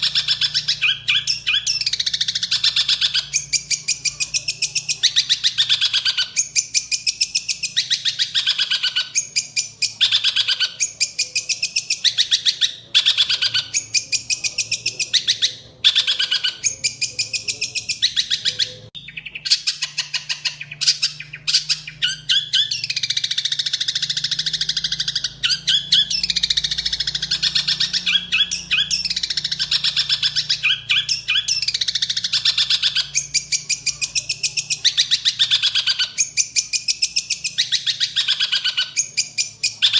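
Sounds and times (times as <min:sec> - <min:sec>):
bird harsh chattering song: 0:00.0 - 0:39.9
imitated sparrow chirps: 0:00.0 - 0:39.9.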